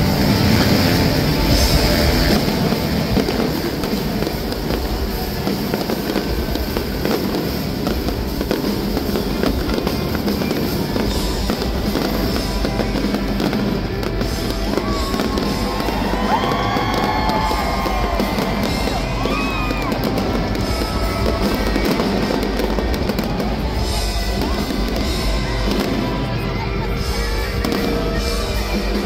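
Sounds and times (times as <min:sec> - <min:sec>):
fireworks bangs and crackles: 0:00.0 - 0:29.0
music playing: 0:00.0 - 0:29.0.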